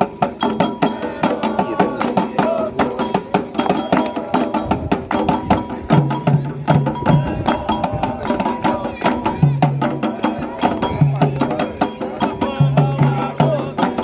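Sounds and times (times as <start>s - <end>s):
hand drums: 0.0s - 14.0s
struck bell or wood block: 0.0s - 14.0s.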